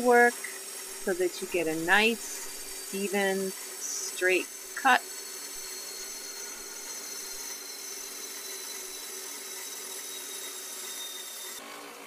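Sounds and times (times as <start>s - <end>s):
band saw grinding through glass: 0.0s - 12.0s.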